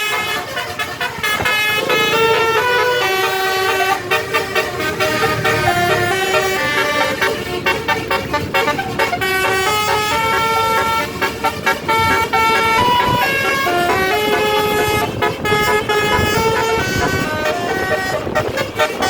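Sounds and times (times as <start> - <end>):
bus horn playing melody: 0.0 - 19.0.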